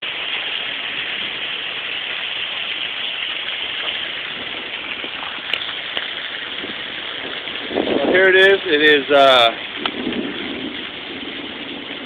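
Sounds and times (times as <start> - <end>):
torrential rain pouring: 0.0 - 12.0.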